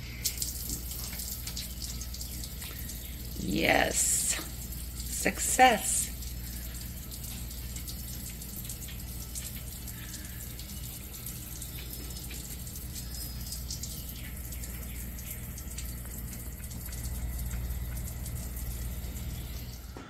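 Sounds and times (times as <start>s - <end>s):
shower spraying water: 0.0s - 20.0s.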